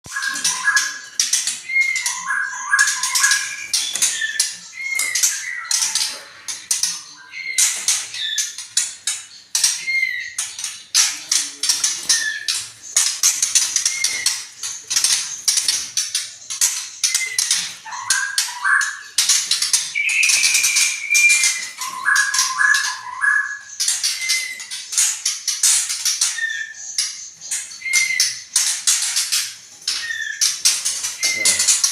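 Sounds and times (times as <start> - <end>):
songbird singing: 0.0 - 31.9.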